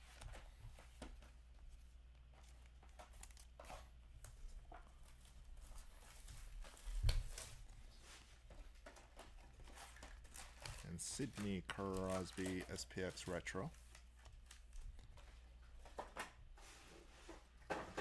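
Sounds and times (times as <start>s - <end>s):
cards flicking and rustling: 0.0s - 16.4s.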